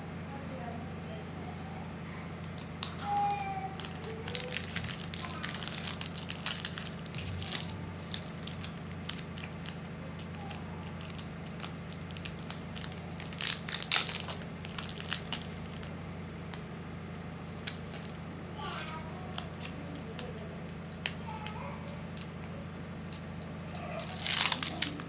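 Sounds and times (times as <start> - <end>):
grinder crushing sweets: 2.4 - 16.7, 17.3 - 25.0.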